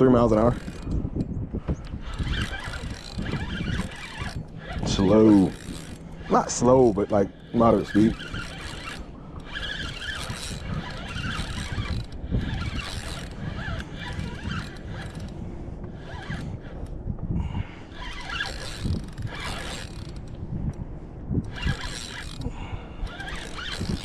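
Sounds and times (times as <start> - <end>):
gear scraping and knocking: 0.0 - 24.0
water swishing against hull: 0.0 - 24.0
wind on microphone: 0.0 - 24.0.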